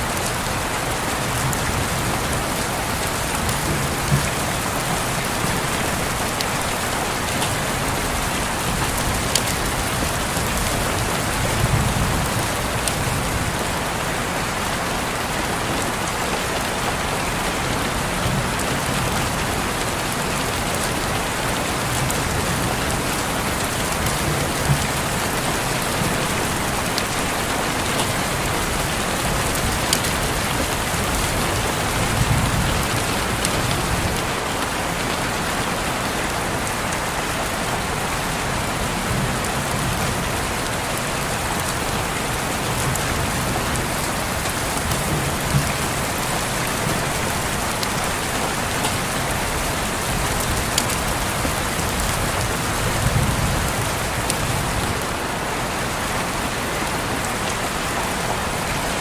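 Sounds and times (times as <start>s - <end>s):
rain falling on a window: 0.0s - 59.0s.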